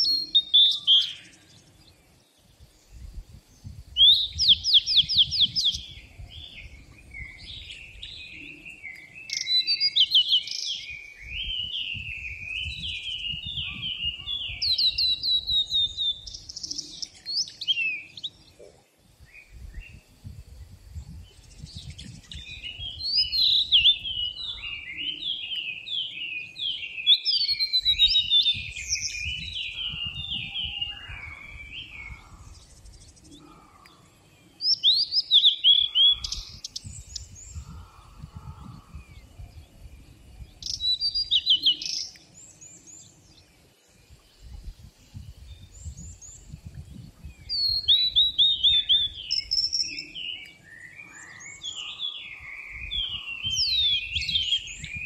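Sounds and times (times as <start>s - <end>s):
songbird singing trills: 0.0s - 55.0s.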